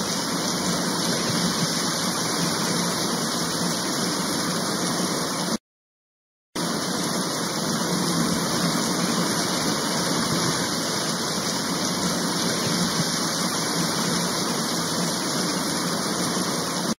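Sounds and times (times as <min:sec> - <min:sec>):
steady rain hiss: 0:00.0 - 0:05.6, 0:06.6 - 0:17.0.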